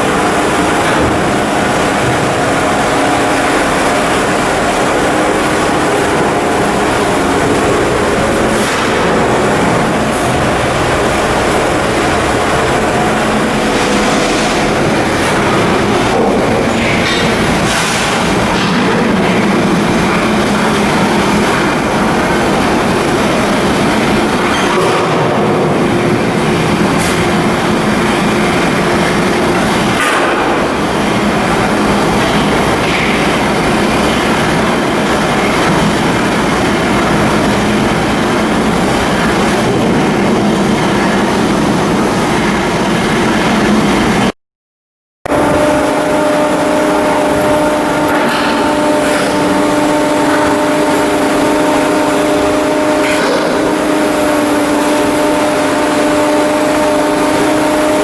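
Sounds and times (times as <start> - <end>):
heavy machinery drone: 0.0 - 44.4, 45.2 - 58.0.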